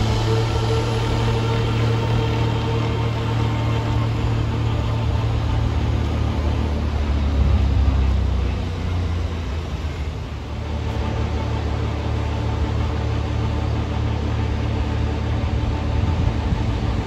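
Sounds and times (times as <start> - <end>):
snowblower and truck engine drone: 0.0 - 17.0.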